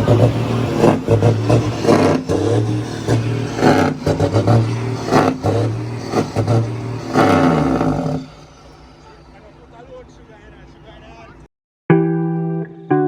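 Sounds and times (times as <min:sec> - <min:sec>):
heavy truck engine running: 0:00.0 - 0:11.5.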